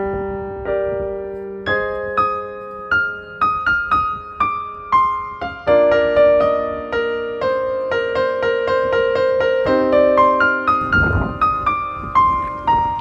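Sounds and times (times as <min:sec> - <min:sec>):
piano notes ringing: 0:00.0 - 0:13.0.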